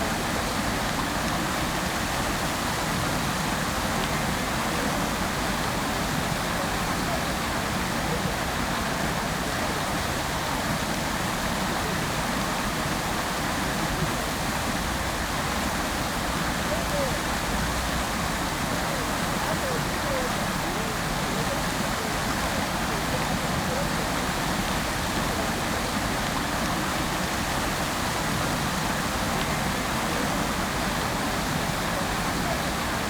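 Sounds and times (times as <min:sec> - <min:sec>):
water fountain splashing: 0:00.0 - 0:33.0.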